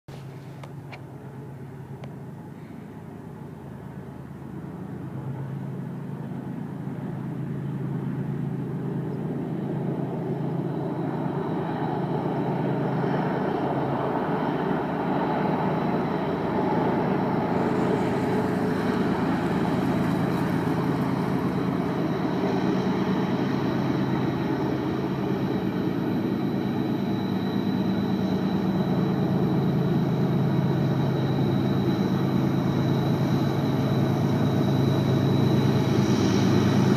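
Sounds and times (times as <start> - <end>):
faint high whine: 0.1 - 36.9
locomotive engine drone: 0.1 - 36.9.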